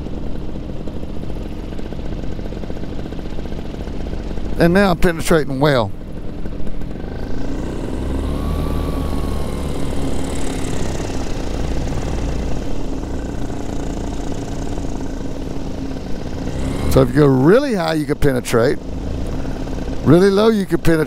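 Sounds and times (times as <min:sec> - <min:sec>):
paramotor engine and propeller: 0:00.0 - 0:21.0.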